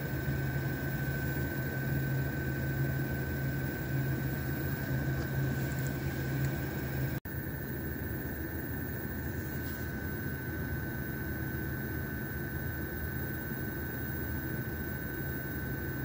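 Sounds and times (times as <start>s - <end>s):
high machine whine: 0.0s - 16.0s
workshop machinery humming: 0.0s - 16.0s.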